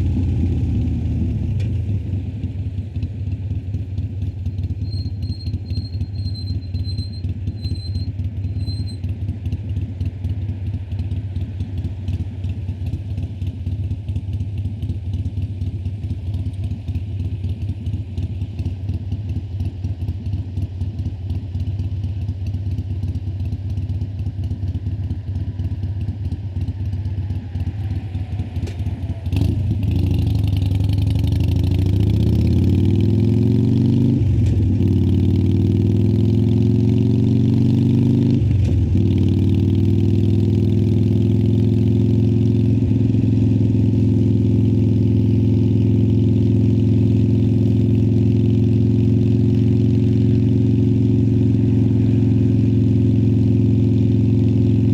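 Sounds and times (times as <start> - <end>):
motorcycle engine: 0.0 - 54.9.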